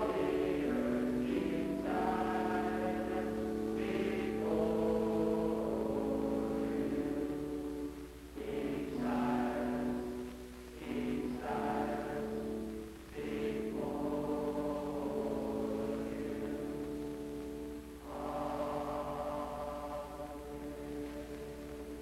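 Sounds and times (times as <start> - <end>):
boys' choir singing a hymn: 0.0 - 22.0.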